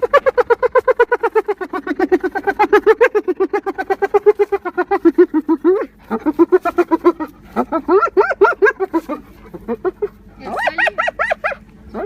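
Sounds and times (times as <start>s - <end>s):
hyena giggling: 0.0s - 12.0s.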